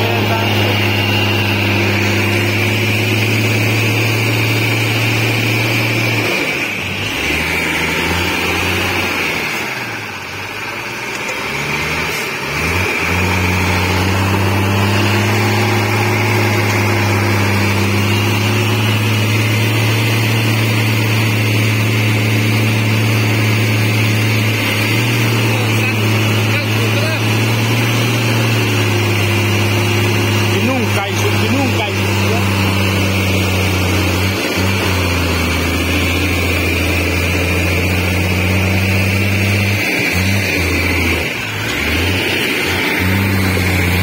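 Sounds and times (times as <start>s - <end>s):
truck engine running under load: 0.0s - 44.0s.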